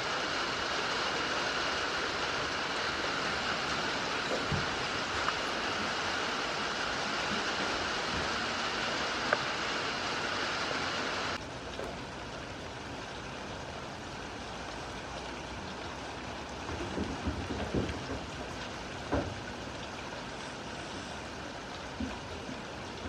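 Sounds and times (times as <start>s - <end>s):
heavy rain hiss: 0.0s - 23.0s.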